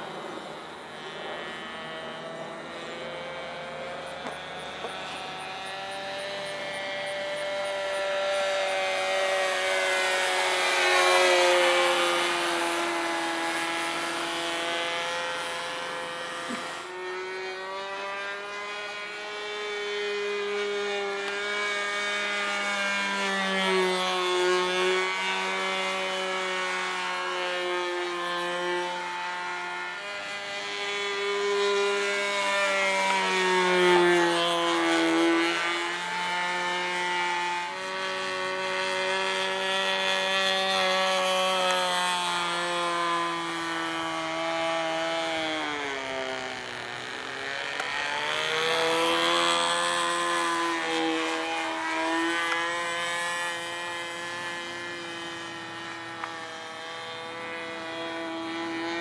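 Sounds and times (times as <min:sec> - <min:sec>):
model airplane engine buzzing: 0:00.0 - 0:59.0.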